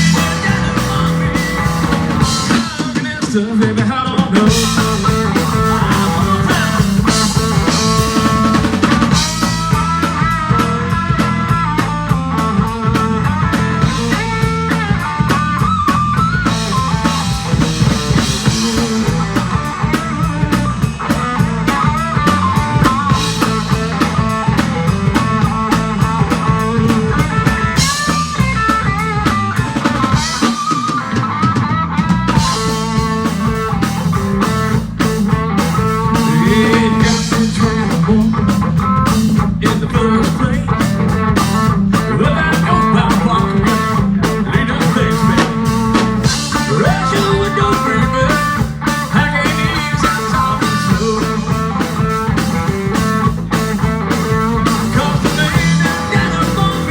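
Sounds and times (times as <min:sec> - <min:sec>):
guitar melody: 0:00.0 - 0:03.0, 0:04.4 - 0:56.9
drum kit beat: 0:00.0 - 0:56.9.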